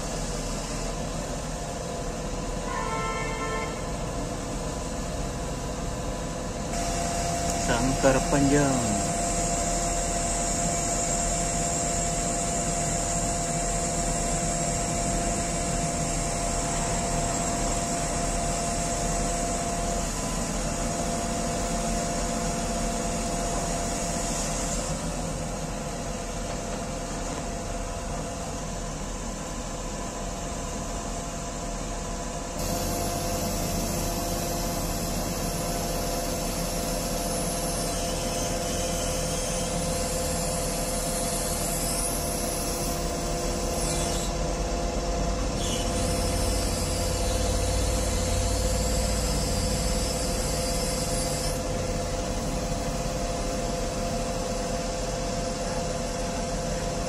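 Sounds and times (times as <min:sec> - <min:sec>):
crane mechanical hum: 0:00.0 - 0:57.0.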